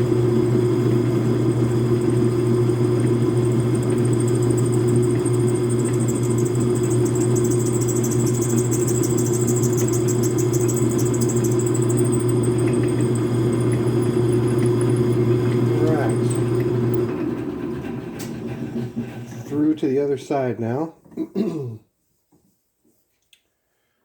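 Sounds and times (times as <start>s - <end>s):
metal lathe motor hum: 0.0s - 19.6s.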